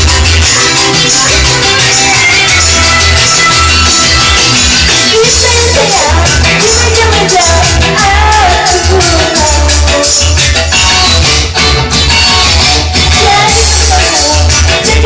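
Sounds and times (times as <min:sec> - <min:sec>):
heavy pulsing bass beat: 0:00.0 - 0:15.0.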